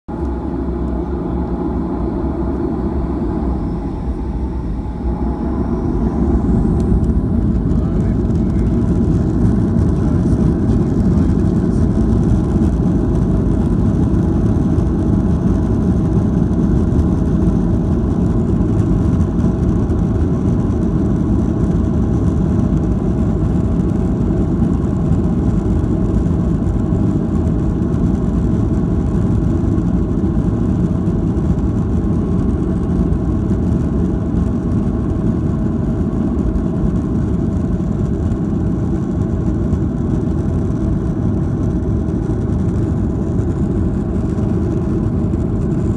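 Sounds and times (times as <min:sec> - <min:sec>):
jet engine whine rising: 0:00.1 - 0:45.9
jet engines rumbling: 0:00.1 - 0:45.9.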